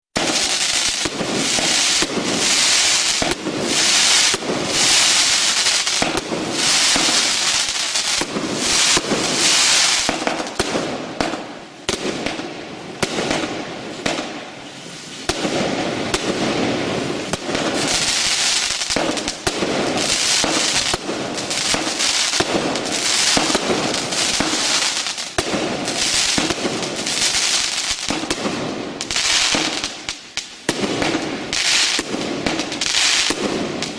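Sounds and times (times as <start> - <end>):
fireworks crackling and popping: 0.1 - 33.9
fireworks hissing: 0.2 - 33.9.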